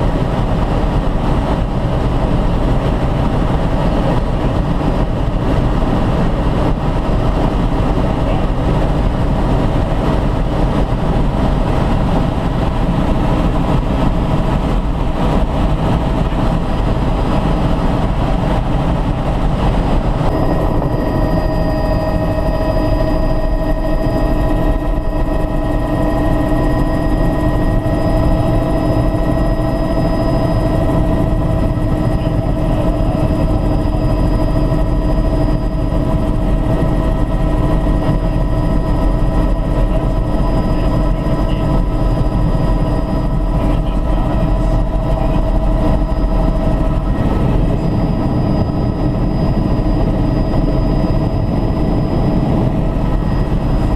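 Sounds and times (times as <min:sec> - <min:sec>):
helicopter engine and rotors: 0:00.0 - 0:53.9
steady whining tones: 0:00.0 - 0:53.9.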